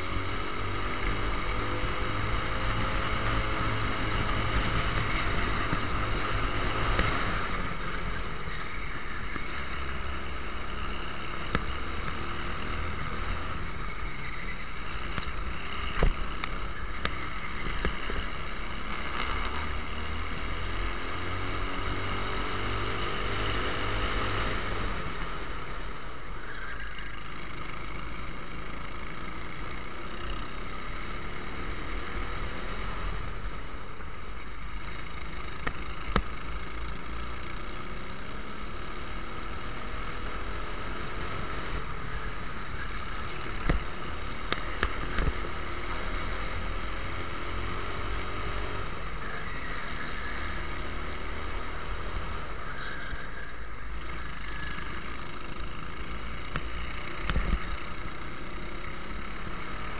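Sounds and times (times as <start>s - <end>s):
racing kart engines revving: 0.0s - 59.9s.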